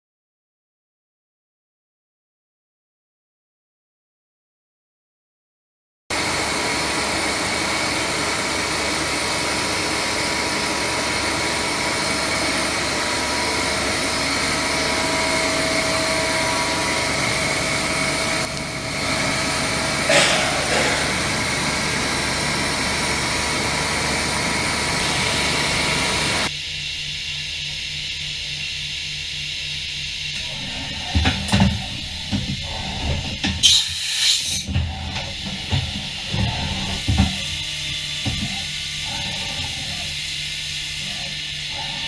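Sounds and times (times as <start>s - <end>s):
machine whirring and whining: 6.1s - 42.0s.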